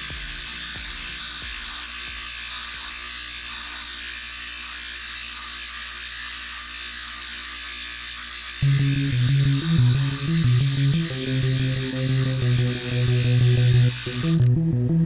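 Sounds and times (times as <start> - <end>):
lapidary machine running: 0.0 - 15.0.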